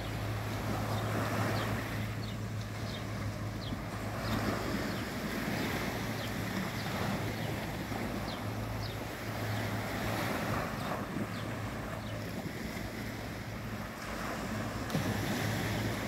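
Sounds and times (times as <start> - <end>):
small waves washing on shore: 0.0 - 16.0
wind buffeting microphone: 0.0 - 16.0.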